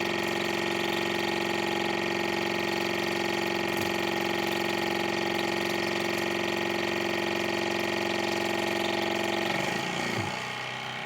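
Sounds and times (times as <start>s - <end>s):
water pick pump buzzing hum: 0.0s - 11.0s.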